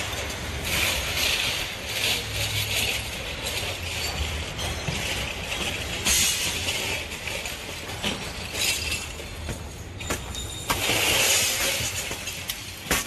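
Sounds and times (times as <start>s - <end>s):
glass shards cracking and falling: 0.0s - 13.0s.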